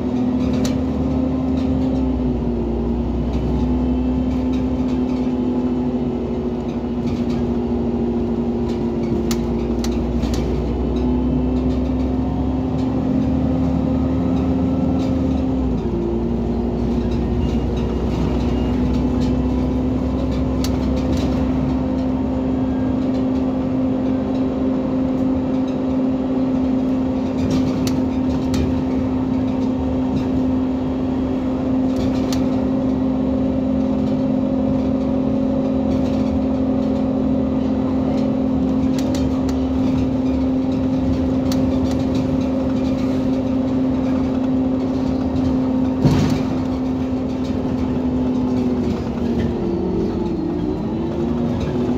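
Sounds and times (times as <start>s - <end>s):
bus engine droning: 0.0s - 51.9s.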